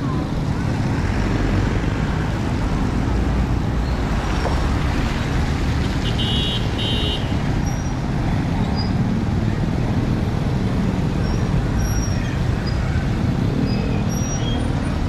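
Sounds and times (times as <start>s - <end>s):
traffic on a wet road: 0.0s - 15.0s.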